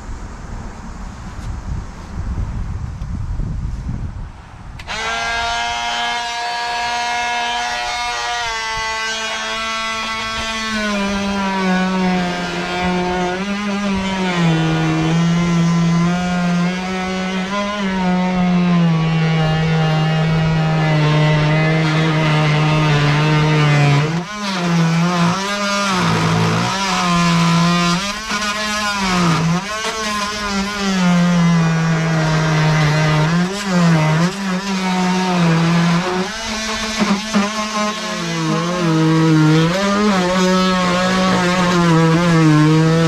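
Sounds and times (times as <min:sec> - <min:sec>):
electric power tool cutting: 0:04.8 - 0:43.0.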